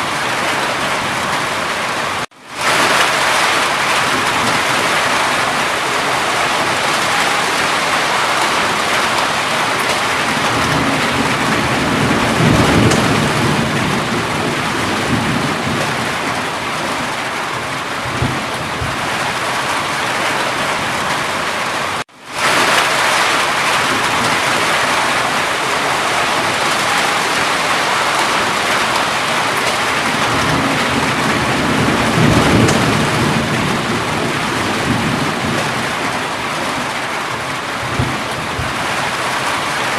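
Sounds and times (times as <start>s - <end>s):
heavy rain pouring: 0.0s - 39.9s
low rolls of thunder: 2.7s - 21.2s, 22.4s - 39.6s.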